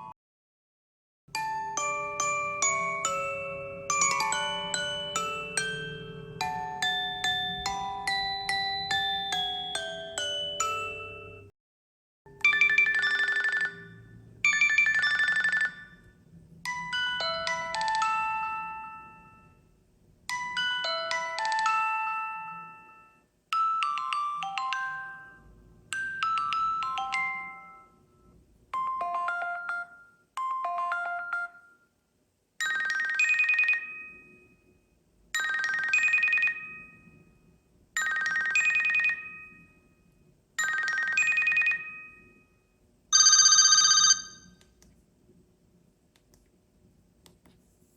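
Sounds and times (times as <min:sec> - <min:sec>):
electronic chime ringtone melodies: 0:01.4 - 0:11.5, 0:12.3 - 0:16.1, 0:16.7 - 0:19.7, 0:20.3 - 0:31.9, 0:32.6 - 0:34.6, 0:35.4 - 0:37.3, 0:38.0 - 0:40.0, 0:40.6 - 0:44.6.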